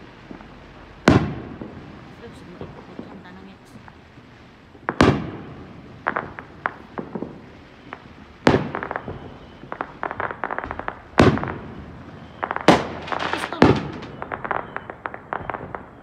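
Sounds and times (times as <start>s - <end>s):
firework pops and crackles: 0.0s - 16.0s
firework shells booming: 0.0s - 16.0s.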